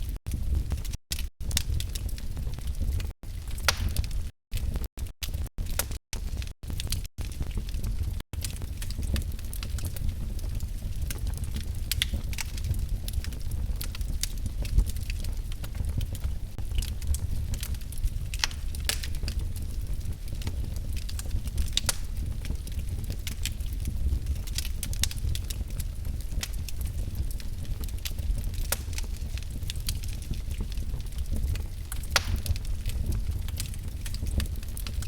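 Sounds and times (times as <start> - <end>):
wood fire crackling: 0.1 - 35.0.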